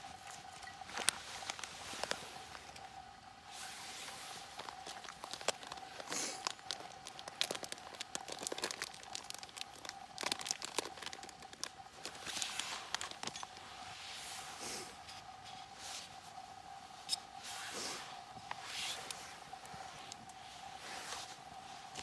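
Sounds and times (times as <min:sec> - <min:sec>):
crinkling and rustling: 0:00.0 - 0:22.0
faint steady hum: 0:00.0 - 0:22.0.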